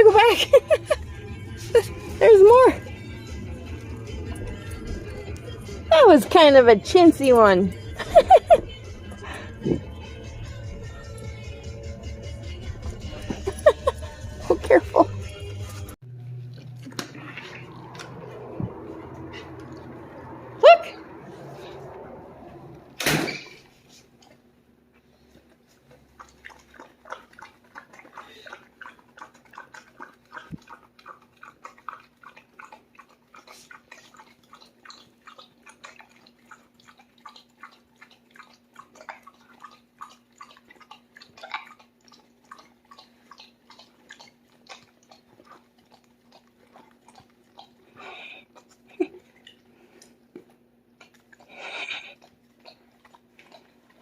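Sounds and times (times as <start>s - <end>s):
dog licking and lapping: 0.0s - 22.0s, 23.4s - 54.0s.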